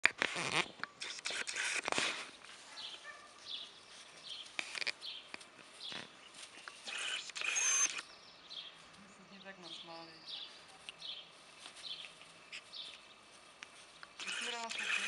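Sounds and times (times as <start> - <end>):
rustling: 0.1 - 8.0, 10.5 - 15.0.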